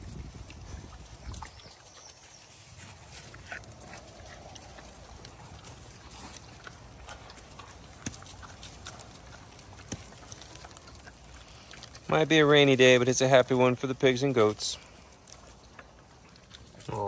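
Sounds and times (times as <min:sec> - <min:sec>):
pigs chomping: 0:00.0 - 0:17.0.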